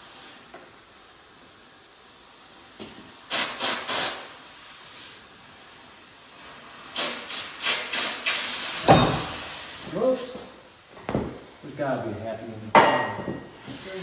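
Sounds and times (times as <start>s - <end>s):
compressed air hissing bursts: 0.0s - 11.7s, 13.2s - 14.0s.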